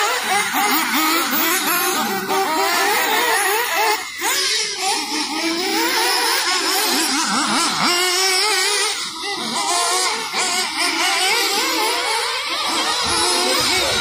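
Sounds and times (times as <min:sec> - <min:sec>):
rc car engines whining: 0:00.0 - 0:14.0.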